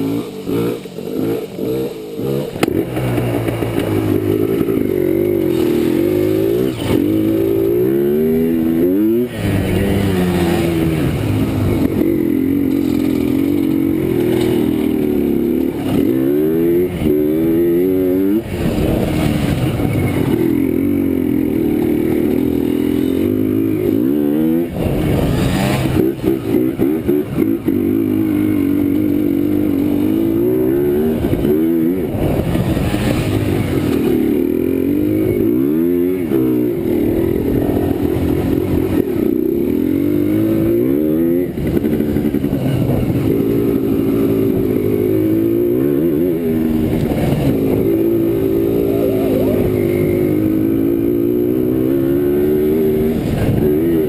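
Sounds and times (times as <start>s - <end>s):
atv engine revving: 0.0s - 54.0s
rushes of noise: 0.0s - 54.0s.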